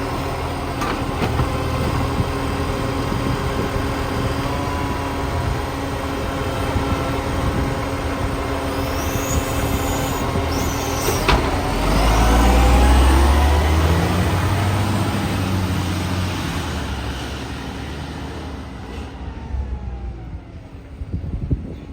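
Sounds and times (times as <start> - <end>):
truck diesel engine pulling away: 0.0 - 21.1.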